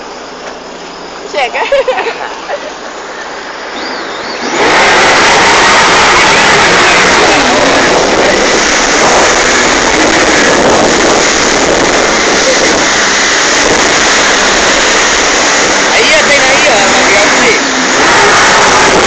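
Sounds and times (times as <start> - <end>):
jet ski engine running: 0.0 - 19.0
water rushing: 0.0 - 19.0
wind noise: 2.8 - 19.0.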